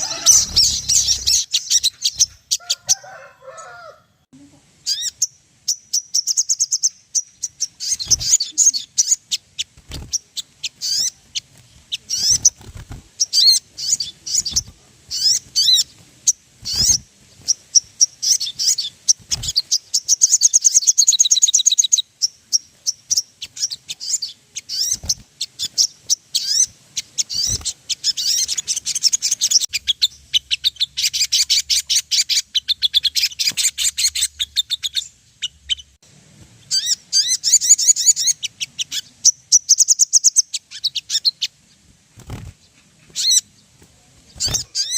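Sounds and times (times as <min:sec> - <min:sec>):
bird chirping and trilling: 0:00.0 - 0:04.0, 0:04.8 - 0:36.0, 0:36.6 - 0:44.9.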